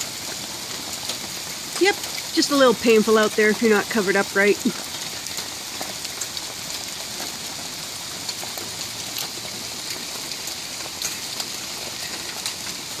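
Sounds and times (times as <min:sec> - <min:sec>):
heavy rain hissing: 0:00.0 - 0:13.0
raindrops tapping close by: 0:00.0 - 0:13.0.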